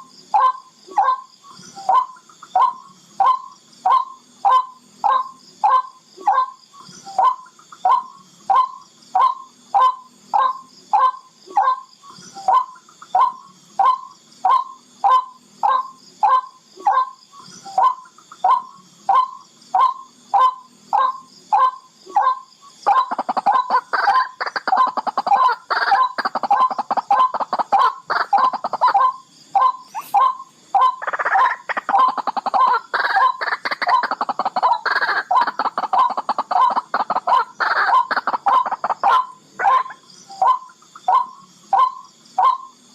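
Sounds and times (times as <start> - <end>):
bird calling: 0.0 - 42.8.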